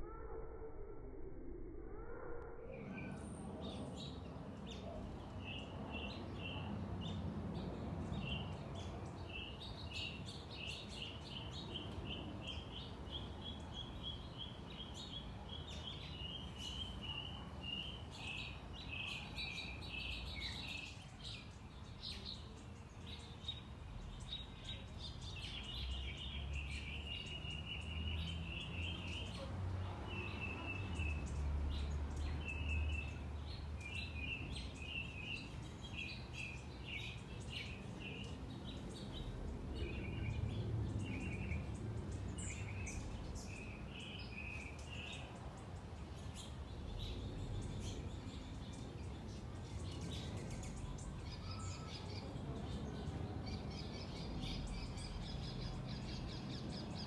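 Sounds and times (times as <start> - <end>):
songbirds chirping: 2.7 - 57.0.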